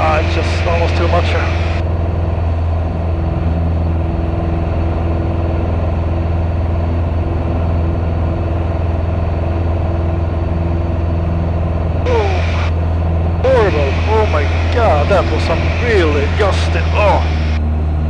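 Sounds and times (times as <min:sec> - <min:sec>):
propeller engine droning: 0:00.0 - 0:18.0.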